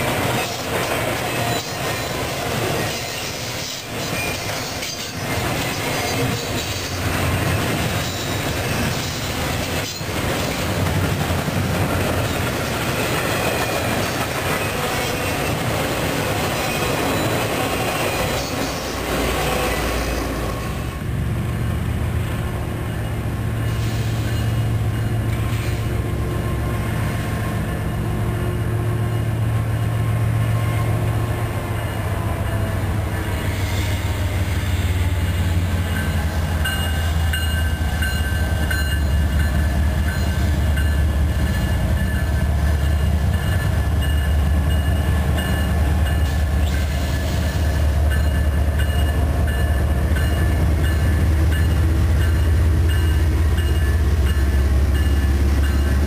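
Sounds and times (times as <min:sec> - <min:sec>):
locomotive engine drone: 0:00.0 - 0:56.0
train wheels on rails: 0:00.0 - 0:56.0.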